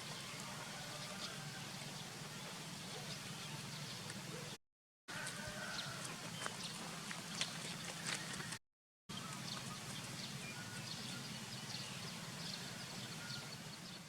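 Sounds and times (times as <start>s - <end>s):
birds chirping: 0.0s - 4.6s, 5.4s - 14.0s.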